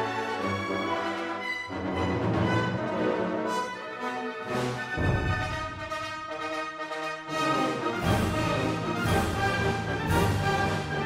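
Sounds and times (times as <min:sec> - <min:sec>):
orchestral music: 0:00.0 - 0:11.0.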